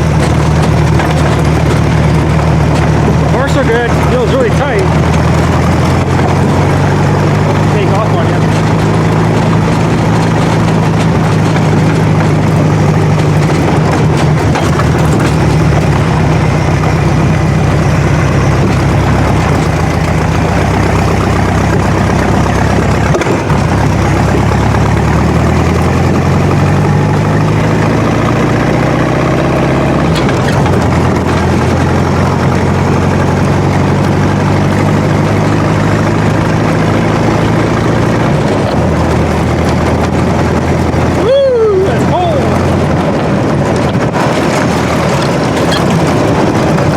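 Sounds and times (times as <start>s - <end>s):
dune buggy engine revving: 0.0s - 46.9s.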